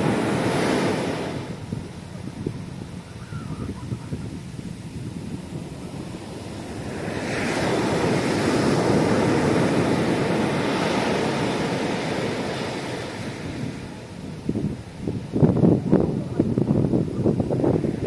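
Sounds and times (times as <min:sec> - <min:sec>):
sea waves breaking on beach: 0:00.0 - 0:18.0
wind buffeting microphone: 0:00.0 - 0:18.0.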